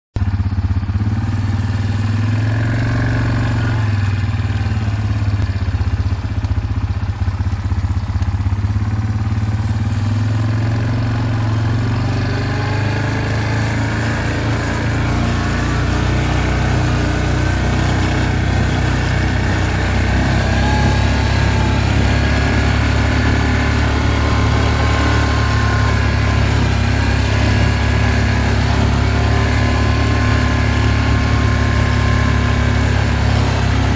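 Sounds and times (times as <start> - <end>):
small engine running: 0.2 - 33.9.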